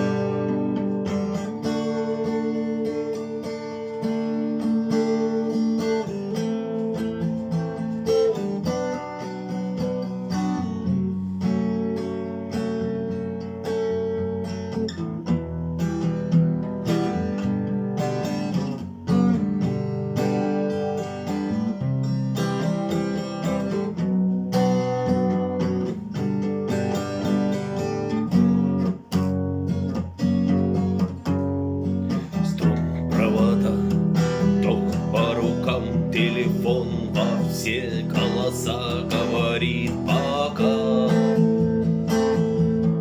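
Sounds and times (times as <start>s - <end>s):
acoustic guitar chords: 0.0s - 43.0s.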